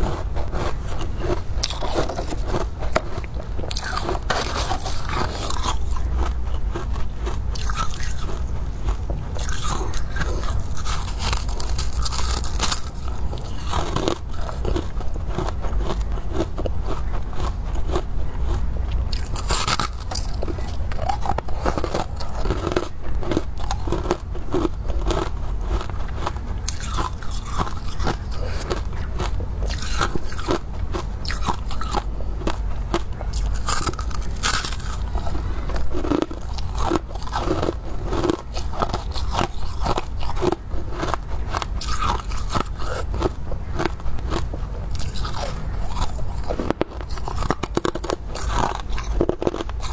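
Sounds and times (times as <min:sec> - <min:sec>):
chewing crunchy frost: 0:00.0 - 0:49.9
steady low rumble: 0:00.0 - 0:49.9.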